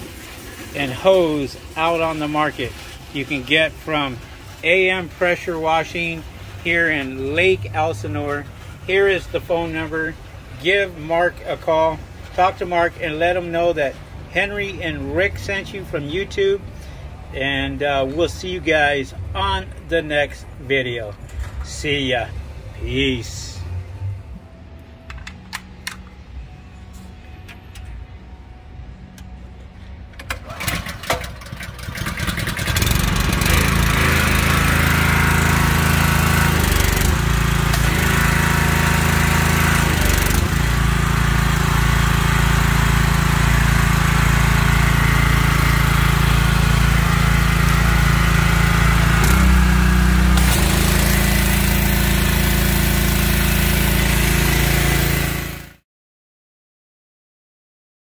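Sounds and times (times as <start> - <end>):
gas engine pull-started and running: 0.0 - 22.4, 23.2 - 55.8.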